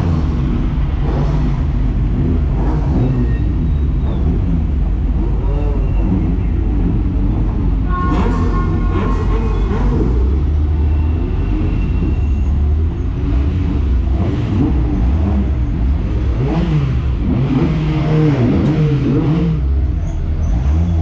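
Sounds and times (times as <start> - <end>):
vehicle engine revving: 0.0 - 21.0.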